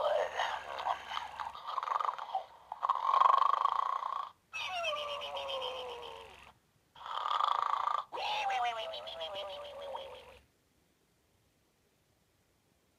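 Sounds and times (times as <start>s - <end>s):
toy snoring sound: 0.0s - 10.4s.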